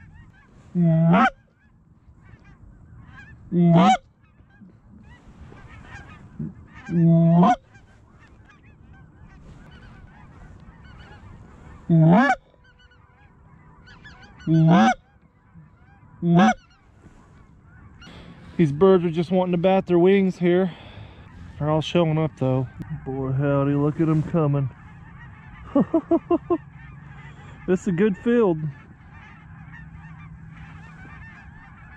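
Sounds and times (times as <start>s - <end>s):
distant flock of geese calling: 0.0s - 31.9s
goose call honks: 0.0s - 31.9s.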